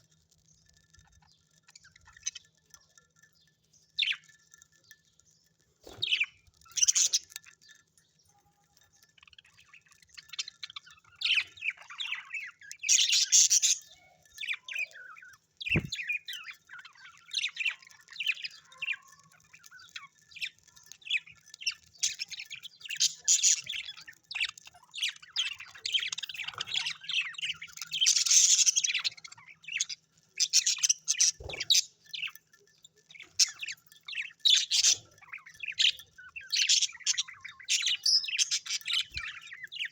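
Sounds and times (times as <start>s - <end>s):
small birds chirping: 0.0s - 39.9s
squawking chatter: 5.8s - 39.9s.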